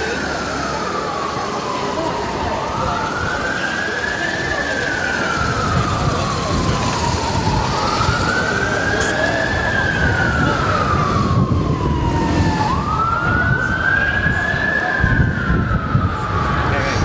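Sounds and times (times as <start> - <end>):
police siren wailing: 0.0 - 17.0
street crowd noise: 0.0 - 17.0.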